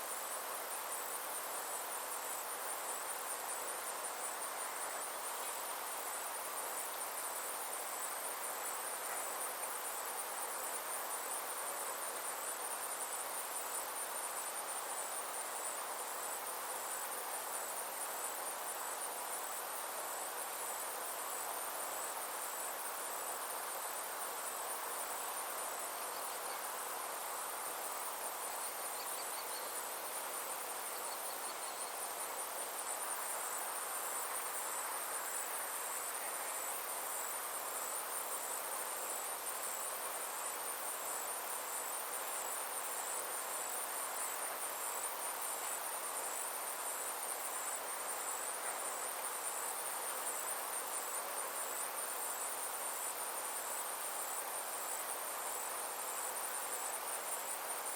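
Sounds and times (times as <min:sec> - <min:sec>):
insects trilling: 0:00.0 - 0:57.9
soft background hiss: 0:00.0 - 0:57.9.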